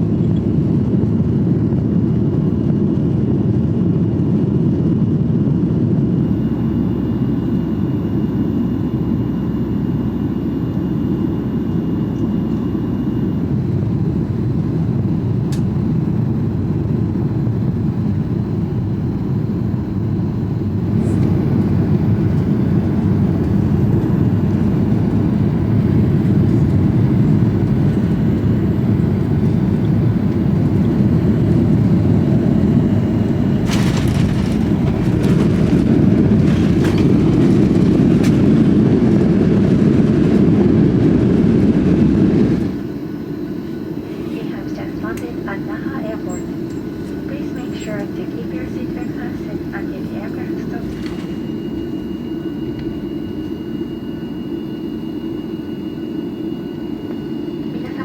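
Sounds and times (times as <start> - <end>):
aircraft engines and airflow rushing: 0.0 - 58.0.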